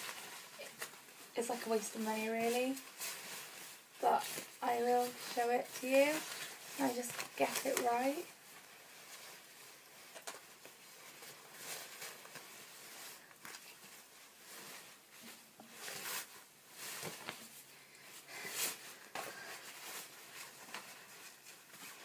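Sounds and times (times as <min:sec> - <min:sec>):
costume fabric rustling: 0:00.0 - 0:22.0.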